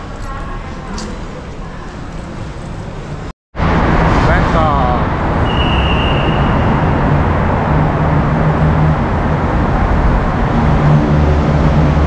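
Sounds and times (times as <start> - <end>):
road traffic noise: 0.0 - 12.0
engines running close by: 2.2 - 12.0.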